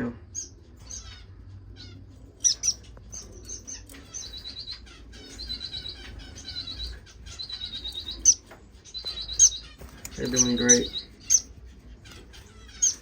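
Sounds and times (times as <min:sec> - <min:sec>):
finches chirping: 0:00.0 - 0:13.0
bird trills: 0:00.3 - 0:13.0.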